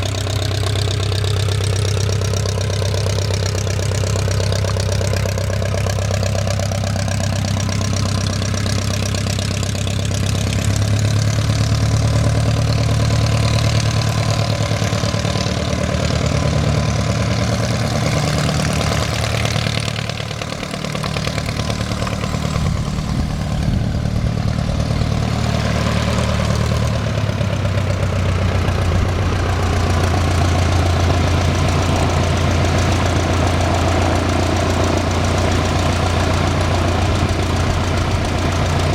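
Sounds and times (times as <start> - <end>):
small airplane engine and propeller: 0.0 - 38.9.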